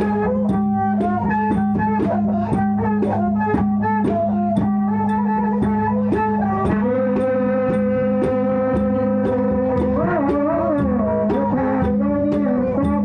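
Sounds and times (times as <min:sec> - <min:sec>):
drum strokes: 0:00.0 - 0:13.0.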